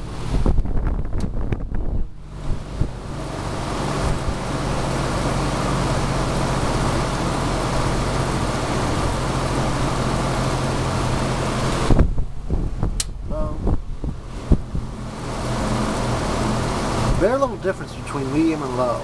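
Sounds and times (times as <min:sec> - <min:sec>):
box fan air rush: 0:00.0 - 0:19.0
low motor hum: 0:00.0 - 0:19.0.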